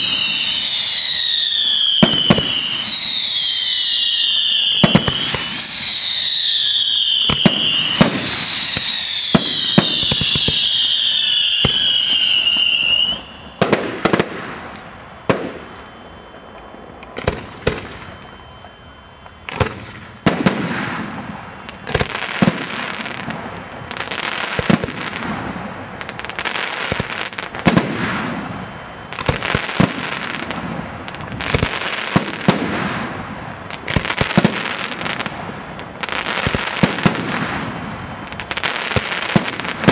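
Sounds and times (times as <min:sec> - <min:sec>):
firework whistles sliding down: 0:00.0 - 0:39.9.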